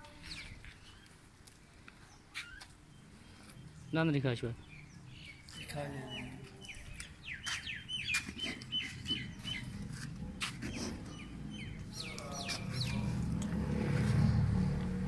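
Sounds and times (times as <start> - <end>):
small birds chirping: 0.0 - 14.5.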